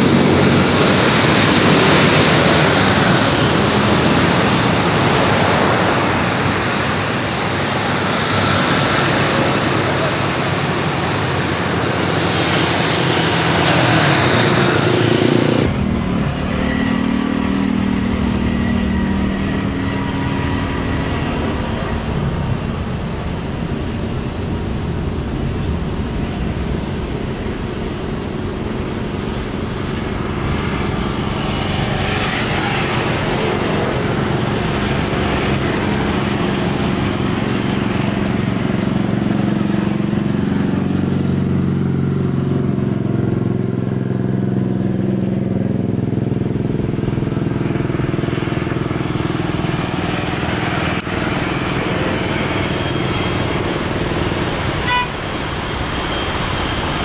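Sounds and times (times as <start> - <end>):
airliner engines humming: 0.0 - 57.0
jet engines roaring: 0.0 - 57.0.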